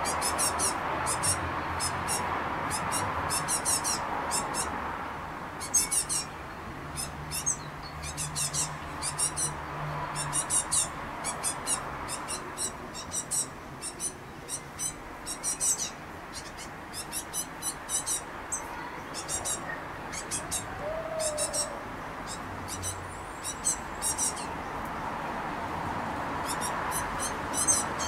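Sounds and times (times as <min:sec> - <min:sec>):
fledglings begging calls: 0:00.0 - 0:04.8, 0:05.6 - 0:24.8, 0:26.4 - 0:28.0.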